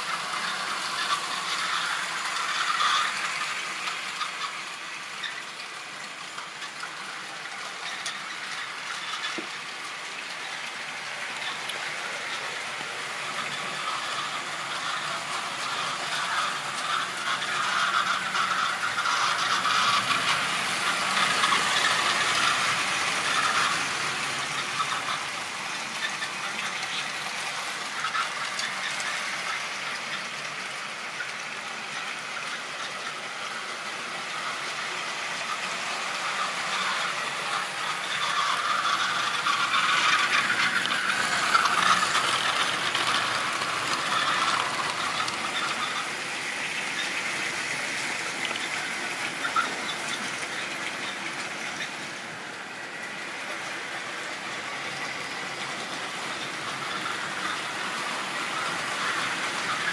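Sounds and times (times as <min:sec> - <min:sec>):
train wheels rattling on rails: 0:00.0 - 0:59.9.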